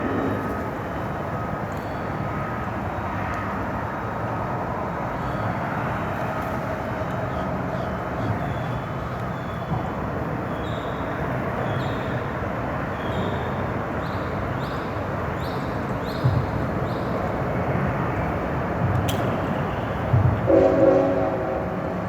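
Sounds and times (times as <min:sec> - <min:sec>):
train rumbling over bridge: 0:00.0 - 0:22.0.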